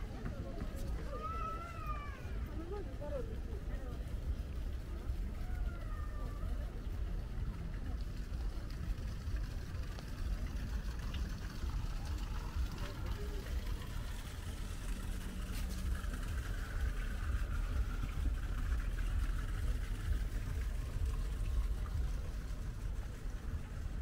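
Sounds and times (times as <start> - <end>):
faint voices: 0.0 - 24.0
steady low rumble: 1.9 - 24.0.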